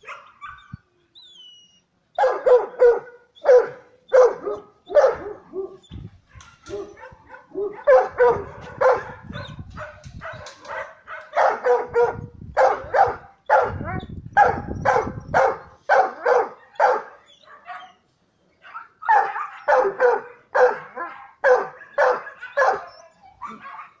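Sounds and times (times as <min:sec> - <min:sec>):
dog barking: 0:00.0 - 0:00.6, 0:02.2 - 0:18.0, 0:18.7 - 0:24.0.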